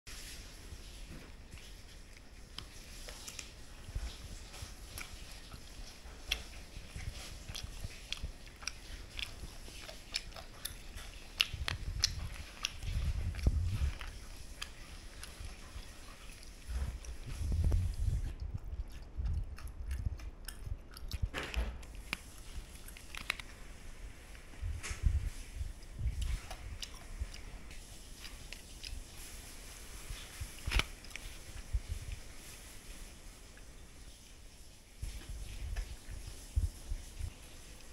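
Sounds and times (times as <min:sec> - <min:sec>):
crisp crust crackling: 0:00.1 - 0:33.7.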